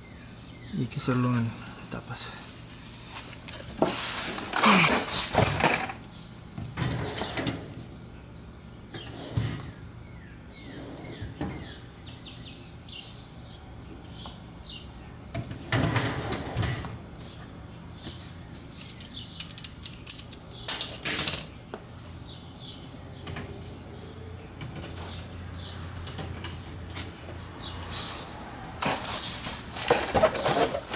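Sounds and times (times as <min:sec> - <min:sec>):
small birds chirping: 0:00.0 - 0:03.8, 0:06.0 - 0:28.4.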